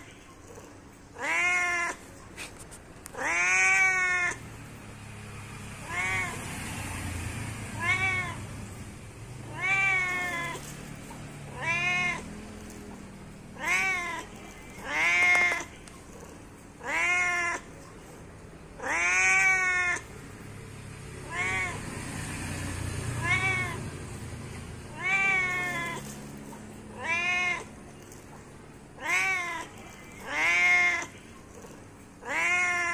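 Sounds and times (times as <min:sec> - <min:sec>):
cat meowing: 0:00.0 - 0:02.2, 0:03.0 - 0:04.5, 0:05.8 - 0:08.8, 0:09.4 - 0:17.9, 0:18.7 - 0:20.2, 0:21.1 - 0:32.9.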